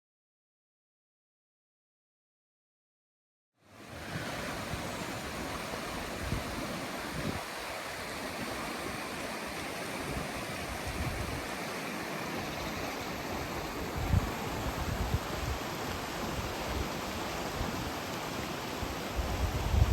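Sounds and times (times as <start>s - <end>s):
stream flowing over rocks: 3.7s - 19.9s.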